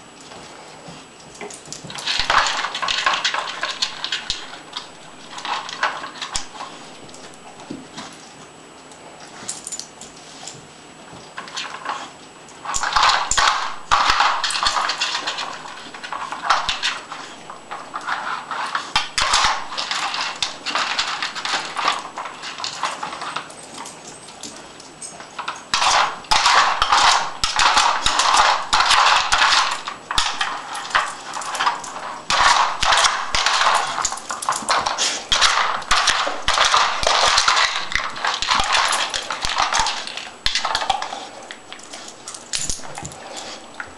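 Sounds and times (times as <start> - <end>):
plastic parts clattering: 1.9 - 7.4, 12.7 - 24.3, 25.0 - 43.2.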